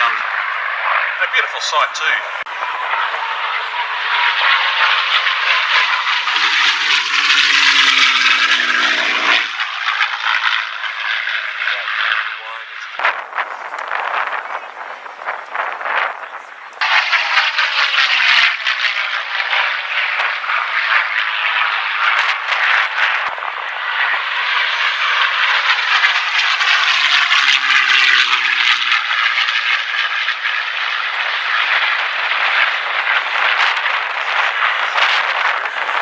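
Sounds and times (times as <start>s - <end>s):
propeller aircraft flying past: 0.0s - 36.0s.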